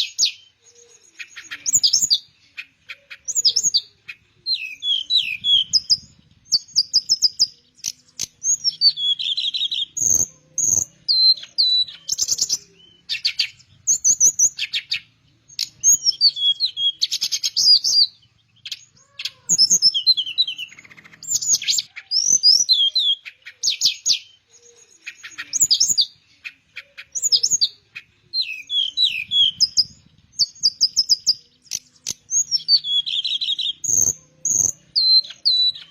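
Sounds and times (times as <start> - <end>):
bird singing trills and whistles: 0.0 - 35.9.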